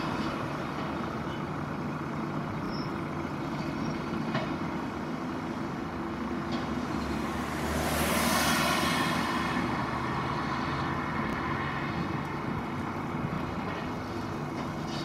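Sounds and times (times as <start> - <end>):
excavator diesel engines running: 0.0 - 15.0.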